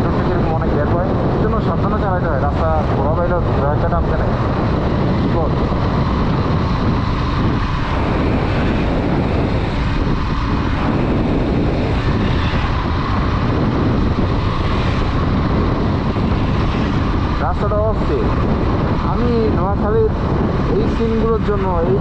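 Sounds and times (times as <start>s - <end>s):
wind rush on microphone: 0.0s - 22.0s
motorcycle engine cruising: 2.5s - 22.0s.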